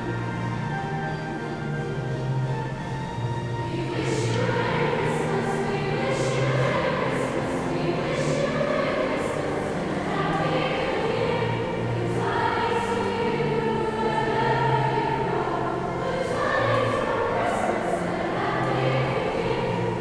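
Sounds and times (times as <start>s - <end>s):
choir singing chords: 0.0s - 20.0s.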